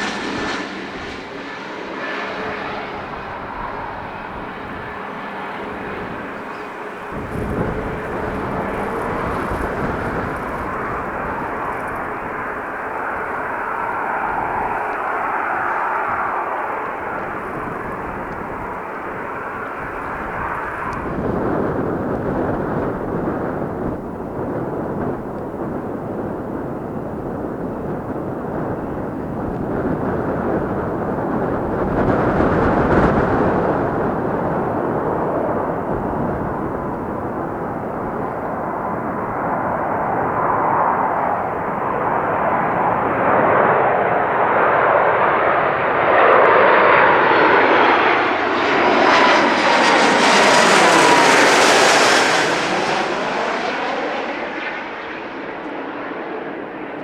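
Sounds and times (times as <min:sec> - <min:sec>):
aircraft engine passing: 0:00.0 - 0:57.0
falling engine whine: 0:00.0 - 0:57.0
wind buffeting microphone: 0:00.0 - 0:57.0.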